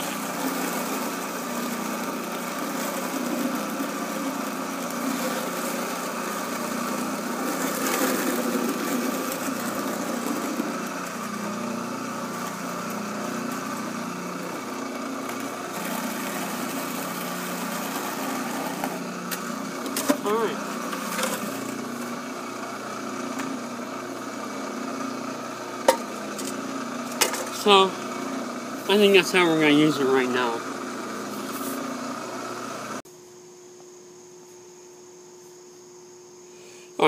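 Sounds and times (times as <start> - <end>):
electric motor humming: 0.0 - 33.0
sand scraping in spinning bucket: 0.0 - 33.0.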